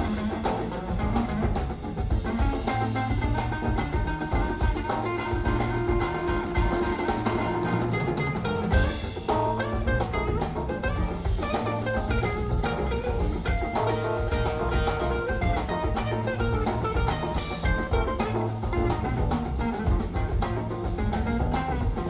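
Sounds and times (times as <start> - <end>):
upbeat jazzy instrumental: 0.0 - 22.0.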